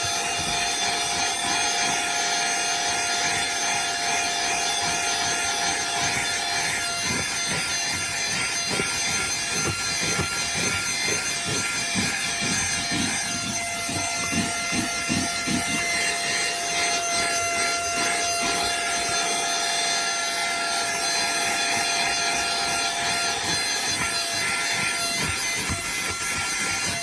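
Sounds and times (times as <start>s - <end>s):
handheld vacuum running: 0.0s - 27.0s
vacuum nozzle scrubbing floor mat: 0.0s - 27.0s.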